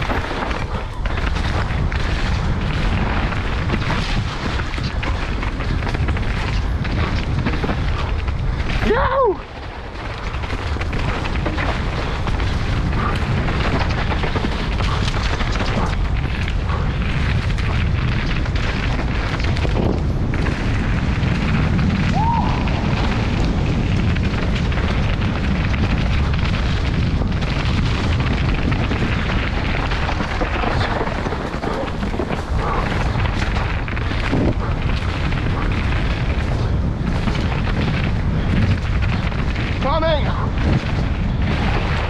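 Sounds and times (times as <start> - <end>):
bike rattling over rough ground: 0.0 - 42.0
wind buffeting microphone: 0.0 - 42.0.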